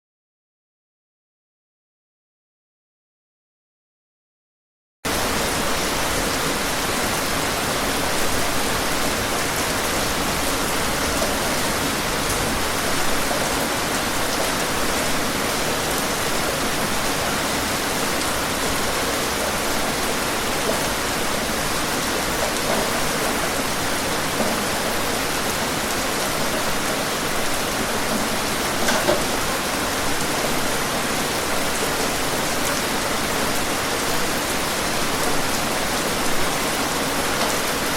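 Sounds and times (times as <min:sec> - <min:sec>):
steady rain hiss: 0:05.1 - 0:37.9.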